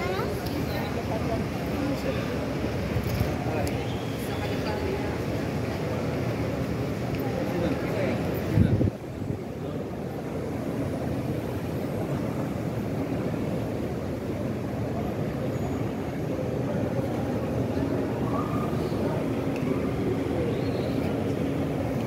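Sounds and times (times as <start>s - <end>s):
crowd murmur in echoing hall: 0.0s - 22.0s.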